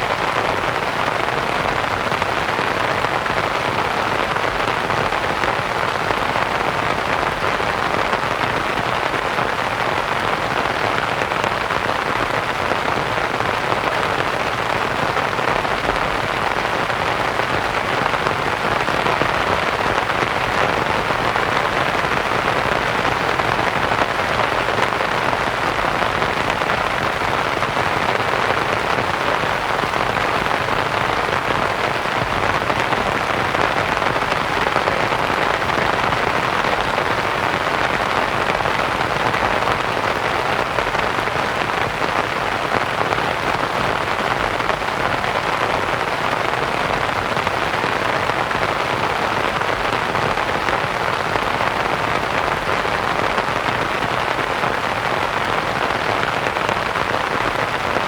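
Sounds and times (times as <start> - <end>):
rain pattering on a canvas tent: 0.0 - 58.0.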